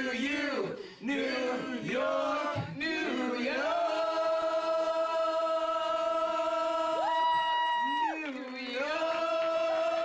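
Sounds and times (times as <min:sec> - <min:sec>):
people singing into microphones: 0:00.0 - 0:07.3, 0:08.2 - 0:10.0.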